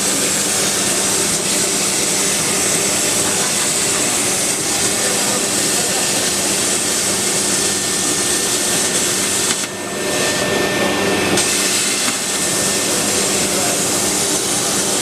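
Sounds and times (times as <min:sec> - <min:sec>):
glass cutting machine running: 0:00.0 - 0:15.0.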